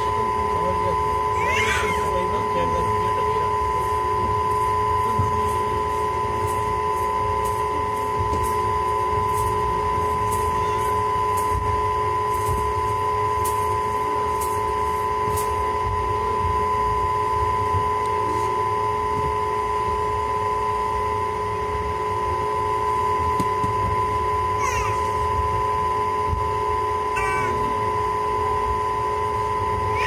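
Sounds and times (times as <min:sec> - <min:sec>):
steady high whine: 0:00.0 - 0:30.0.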